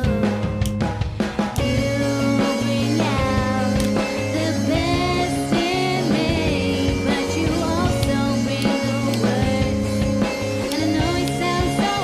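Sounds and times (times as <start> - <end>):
rock song with singing: 0.0 - 12.0.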